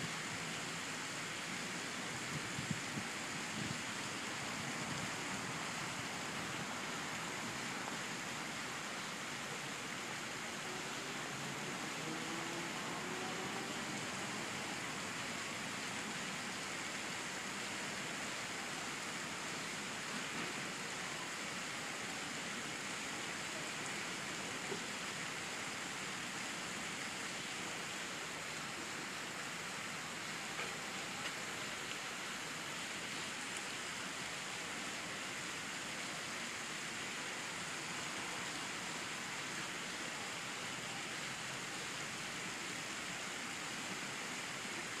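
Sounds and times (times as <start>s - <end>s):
outdoor background hiss: 0.0s - 45.0s.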